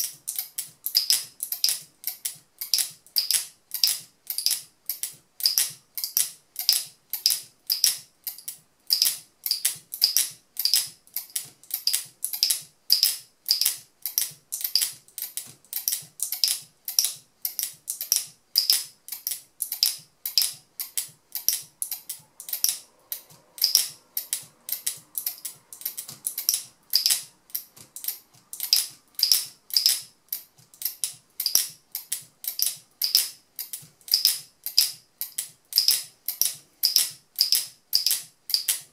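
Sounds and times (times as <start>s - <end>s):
locking mechanism clicking: 0.0s - 38.9s.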